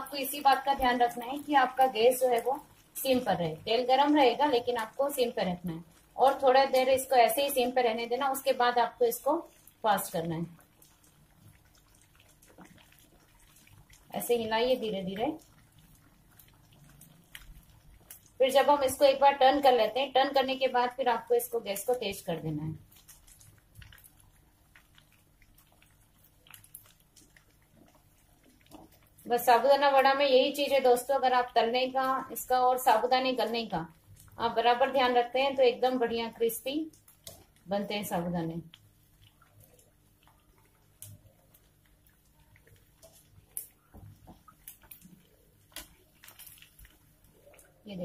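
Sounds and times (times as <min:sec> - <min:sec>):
food deep-frying in hot oil: 0:00.0 - 0:48.0
soft oil crackles: 0:00.0 - 0:48.0.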